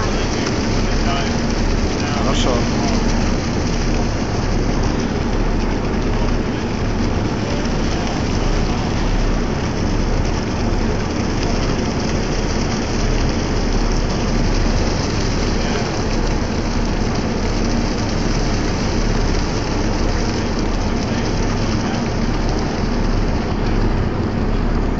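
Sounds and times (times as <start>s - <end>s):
boat engine rumble: 0.0s - 24.9s
water rushing: 0.0s - 24.9s
wind: 0.0s - 24.9s.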